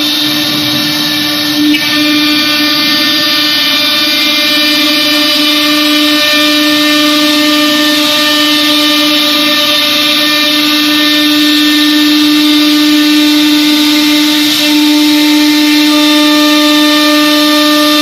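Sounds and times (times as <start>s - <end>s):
high-pitched machine whine: 0.0s - 18.0s.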